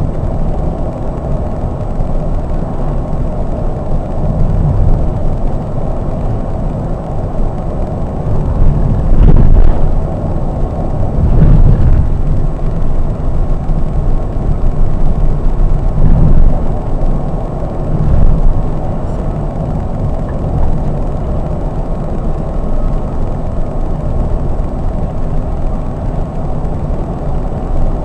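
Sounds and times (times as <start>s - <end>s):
coach engine rumble: 0.0s - 28.0s.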